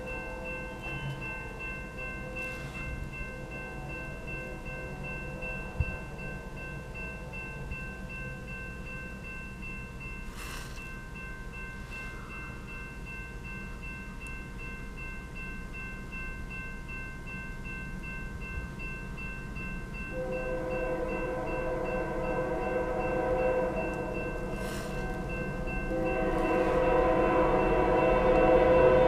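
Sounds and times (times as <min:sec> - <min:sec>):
railroad crossing bell ringing: 0:00.0 - 0:29.0.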